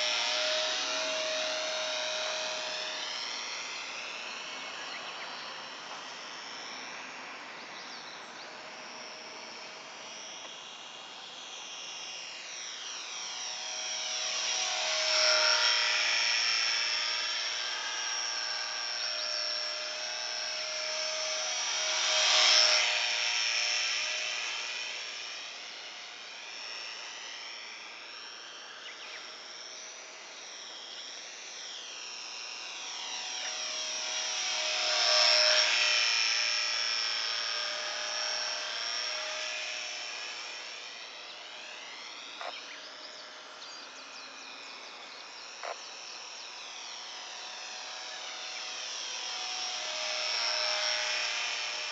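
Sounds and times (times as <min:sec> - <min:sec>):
model plane motor whine: 0:00.0 - 0:51.9.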